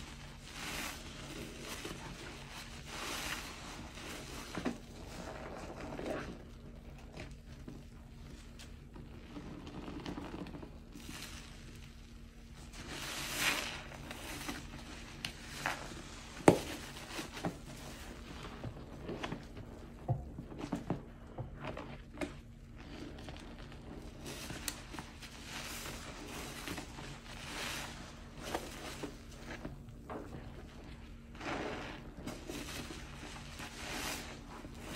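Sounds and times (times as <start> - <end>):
sponges squelching in soapy water: 0.0 - 34.9.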